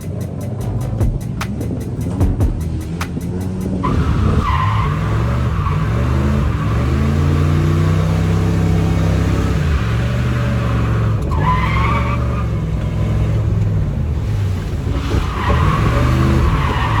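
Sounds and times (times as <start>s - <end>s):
car engine revving: 0.0s - 17.0s
tyres skidding: 0.0s - 17.0s.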